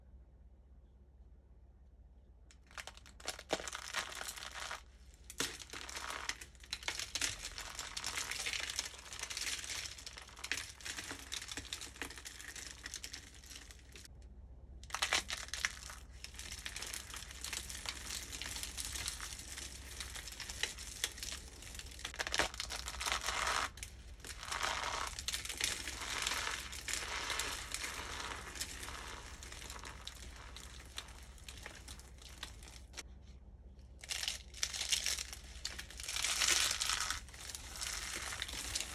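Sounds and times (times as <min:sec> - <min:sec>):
soap crushed by hand crunching: 0:02.5 - 0:14.0, 0:14.8 - 0:33.0, 0:34.0 - 0:38.9.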